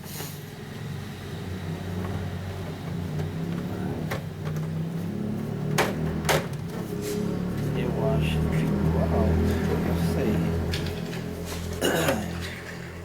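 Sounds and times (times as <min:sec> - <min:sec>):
steady low hum: 0:00.4 - 0:13.0.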